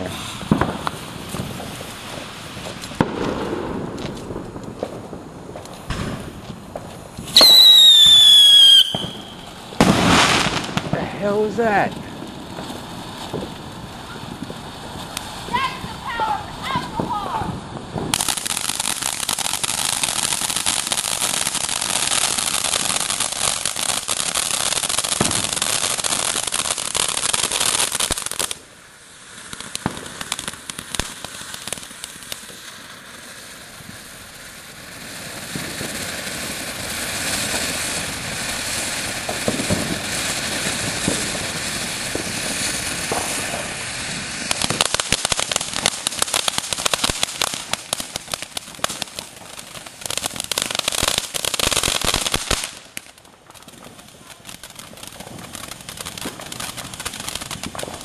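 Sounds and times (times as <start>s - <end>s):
fireworks hissing and crackling: 0.0s - 58.0s.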